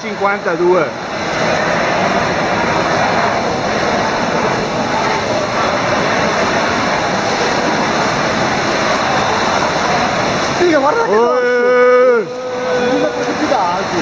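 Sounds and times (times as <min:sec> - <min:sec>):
swimmers splashing: 0:00.0 - 0:14.0.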